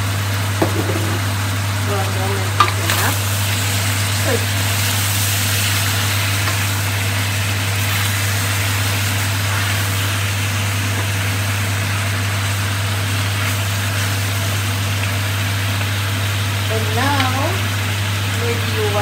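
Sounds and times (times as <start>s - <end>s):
range hood fan humming: 0.0s - 19.0s.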